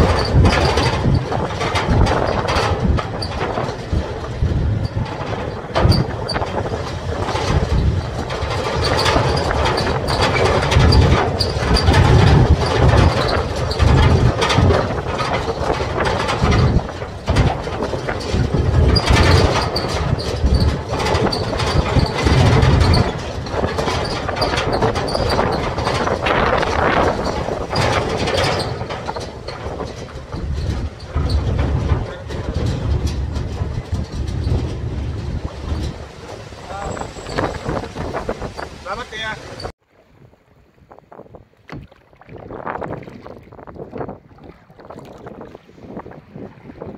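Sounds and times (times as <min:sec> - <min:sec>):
metal truck body rattling: 0:00.0 - 0:39.8
truck engine and road noise: 0:00.0 - 0:41.5.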